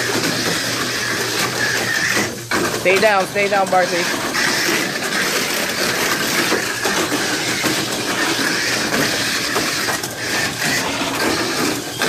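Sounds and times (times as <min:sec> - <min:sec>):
high whine of electric motors: 0:00.0 - 0:12.0
toy cars rattling on track: 0:00.0 - 0:12.0.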